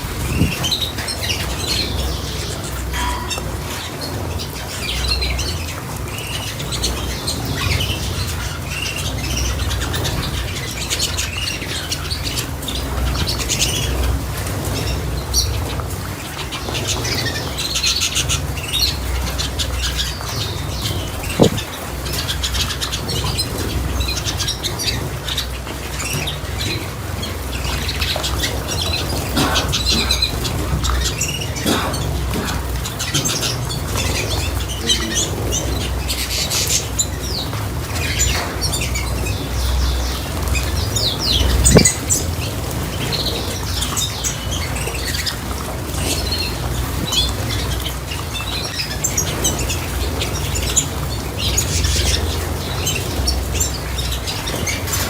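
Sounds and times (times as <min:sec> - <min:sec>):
cage birds chirping and squawking: 0:00.0 - 0:55.0
wings fluttering: 0:00.0 - 0:55.0.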